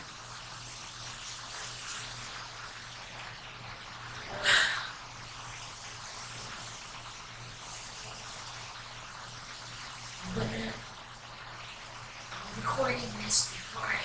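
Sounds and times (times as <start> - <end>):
steady low hum and hiss: 0.0 - 14.0.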